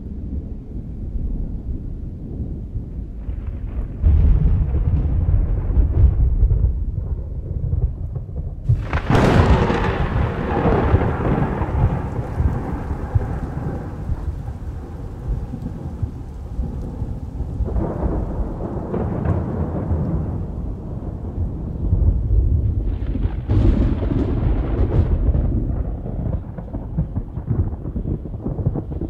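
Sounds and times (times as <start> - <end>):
thunder rumbling and cracking: 0.0 - 29.0
rain falling: 2.9 - 29.0.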